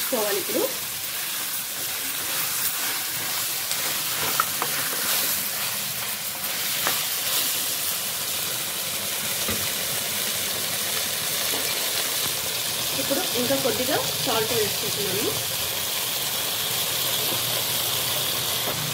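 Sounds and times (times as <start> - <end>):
chicken sizzling in hot oil: 0.0 - 18.9.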